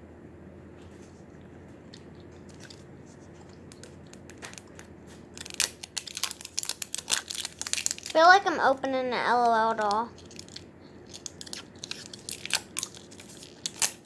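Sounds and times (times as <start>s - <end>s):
plastic packaging crinkling: 2.4s - 14.0s.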